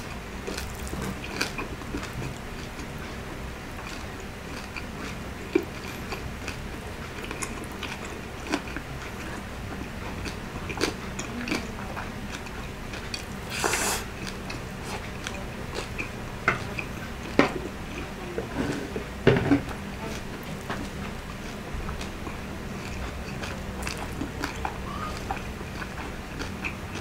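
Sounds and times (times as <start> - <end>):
man chewing crispy food: 0.0 - 27.0.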